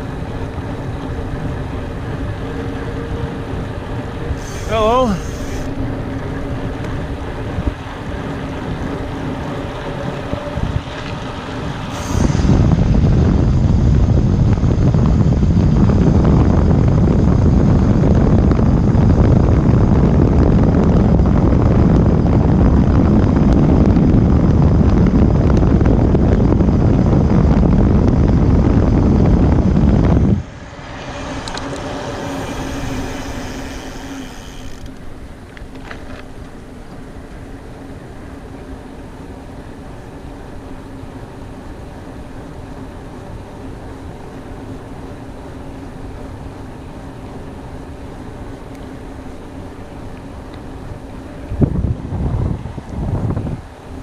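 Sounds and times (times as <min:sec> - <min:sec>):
bike tyre rumble: 0:00.0 - 0:54.0
faint steady hum: 0:00.0 - 0:54.0
wind buffeting microphone: 0:00.0 - 0:54.0.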